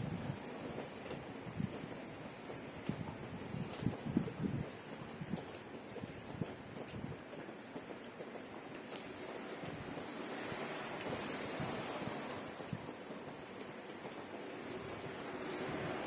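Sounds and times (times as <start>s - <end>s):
wind noise: 0.0s - 8.1s, 8.7s - 16.0s
steady rain falling: 0.0s - 16.0s.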